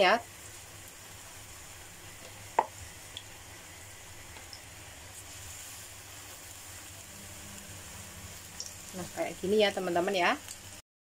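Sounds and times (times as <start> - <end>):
fritters sizzling in oil: 0.0 - 10.8.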